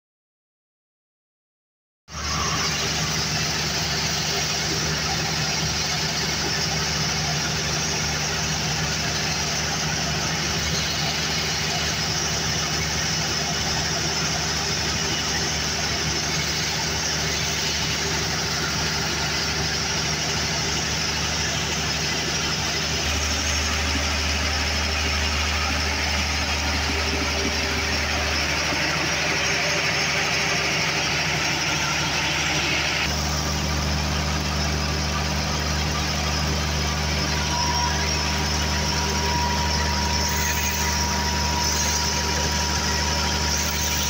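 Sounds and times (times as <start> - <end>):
diesel generator engine running: 2.1 - 44.0.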